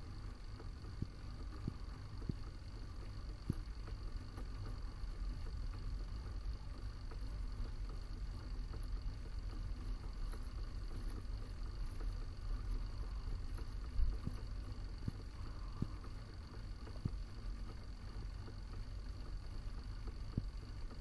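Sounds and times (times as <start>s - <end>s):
lathe humming with whine: 0.0s - 21.0s
small ticks: 0.0s - 21.0s.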